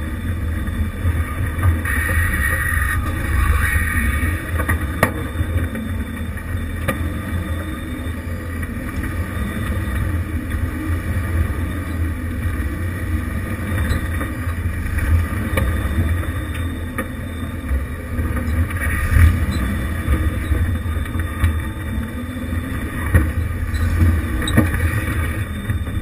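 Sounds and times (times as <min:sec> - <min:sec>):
car engine running low: 0:00.0 - 0:26.0.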